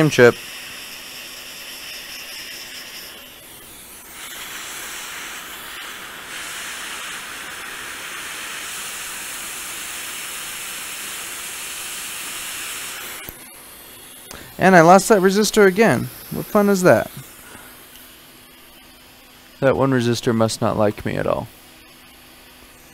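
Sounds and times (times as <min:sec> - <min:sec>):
hot air station hissing: 0:00.0 - 0:22.9.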